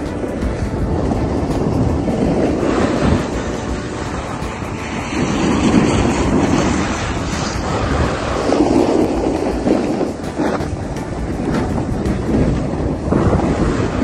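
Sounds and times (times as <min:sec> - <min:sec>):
skis scraping over snow: 0:00.0 - 0:14.0
wind rushing over microphone: 0:00.0 - 0:14.0.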